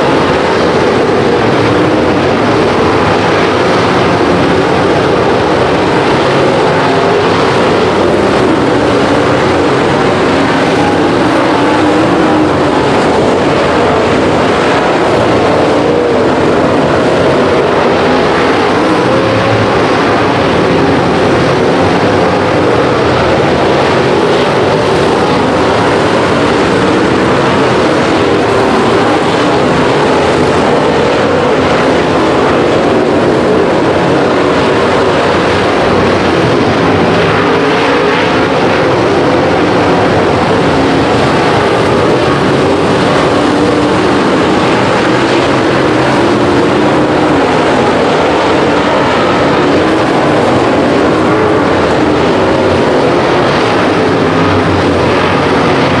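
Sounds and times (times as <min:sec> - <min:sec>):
race car engines at speed: 0:00.0 - 0:56.0.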